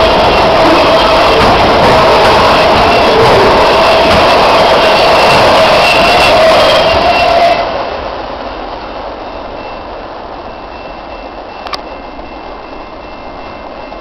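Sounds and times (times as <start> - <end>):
train car clatter: 0.0 - 14.0
train rolling rush: 0.0 - 14.0.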